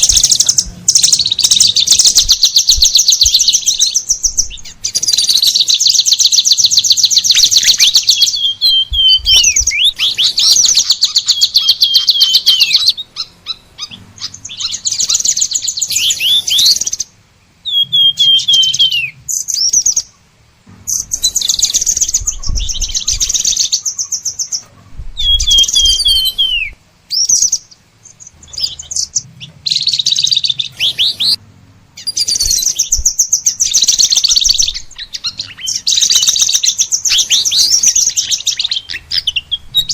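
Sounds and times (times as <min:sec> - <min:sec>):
songbird trilling and whistling: 0:00.0 - 0:20.2, 0:20.8 - 0:31.4, 0:32.0 - 0:39.9.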